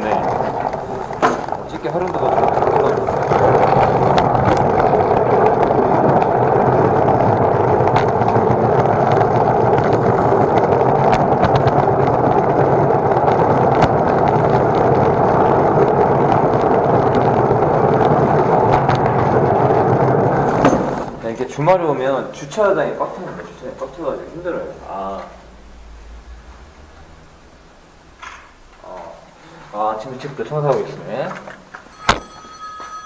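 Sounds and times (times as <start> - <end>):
cart wheels rolling on concrete: 0.0 - 33.0.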